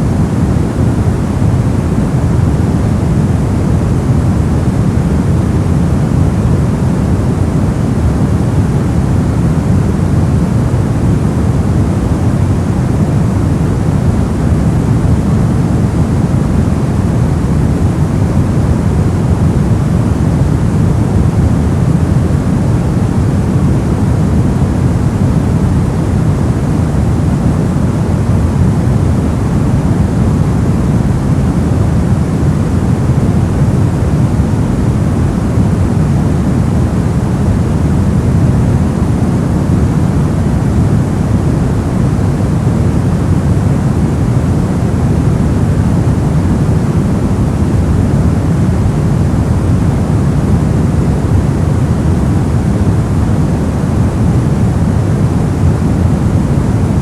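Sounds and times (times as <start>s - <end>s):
white noise rush: 0.0s - 57.0s.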